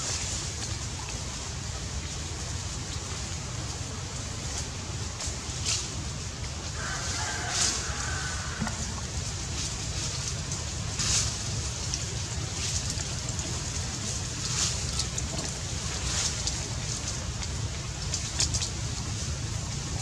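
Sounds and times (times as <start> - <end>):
dry leaves crackling: 0.0 - 20.0
low outdoor rumble: 0.0 - 20.0.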